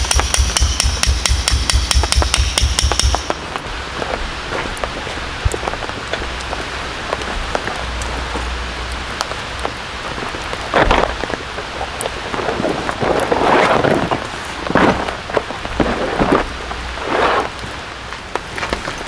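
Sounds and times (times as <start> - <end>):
raindrops ticking close by: 0.0 - 19.0
steady rain: 0.0 - 19.0.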